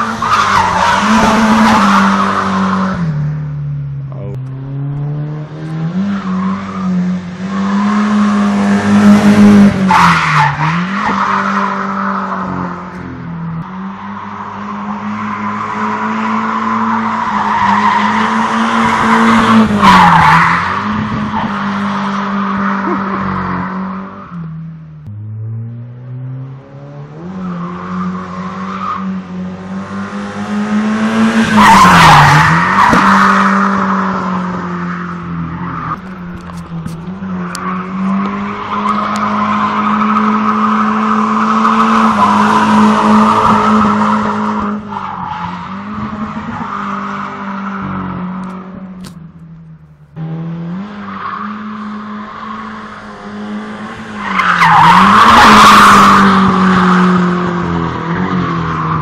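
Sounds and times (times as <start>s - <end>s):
engine at high revs: 4.1s - 13.0s, 13.6s - 24.3s, 25.0s - 49.0s, 50.2s - 59.0s.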